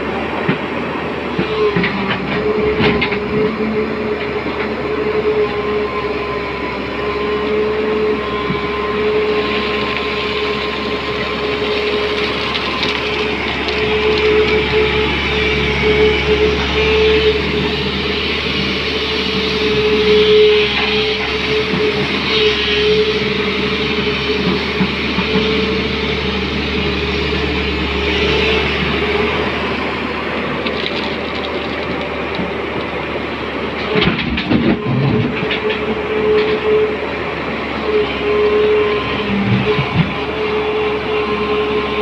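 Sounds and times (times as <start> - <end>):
excavator diesel engine and hydraulics: 0.0 - 42.0.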